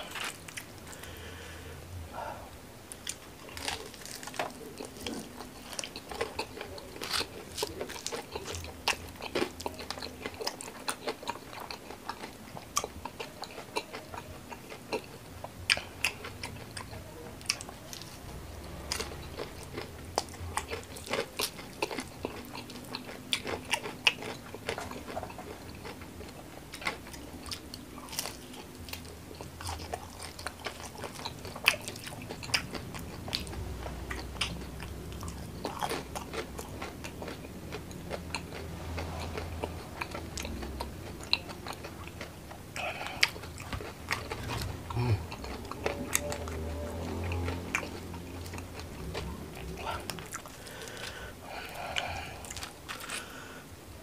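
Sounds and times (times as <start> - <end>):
chewing and crunching food: 0.0 - 1.6, 2.9 - 53.7.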